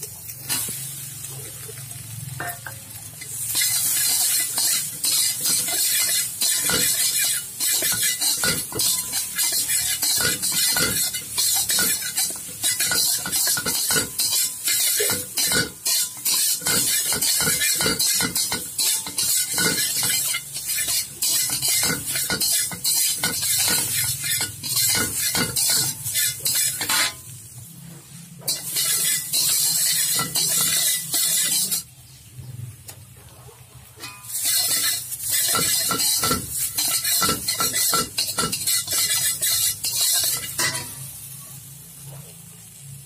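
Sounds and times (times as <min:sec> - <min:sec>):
frying sizzle: 0:00.0 - 0:43.0
spatula scraping a wok: 0:00.4 - 0:32.3, 0:34.0 - 0:42.0.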